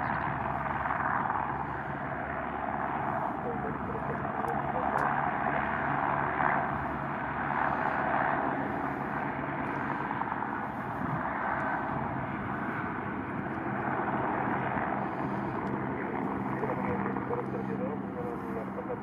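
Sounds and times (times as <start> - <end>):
helicopter turbines and rotors: 0.0 - 19.0.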